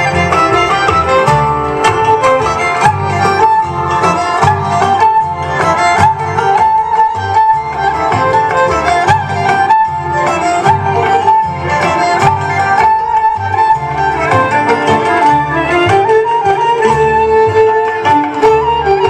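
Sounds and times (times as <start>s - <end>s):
violin-led folk dance music: 0.0s - 19.0s.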